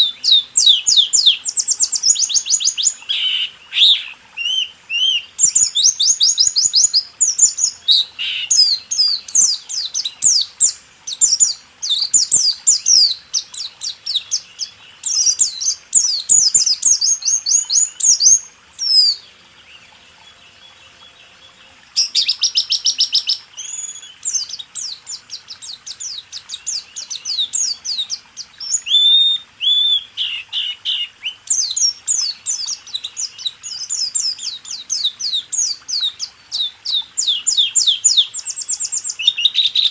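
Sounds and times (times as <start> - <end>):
bird singing fast rolling song: 0.0 - 39.9.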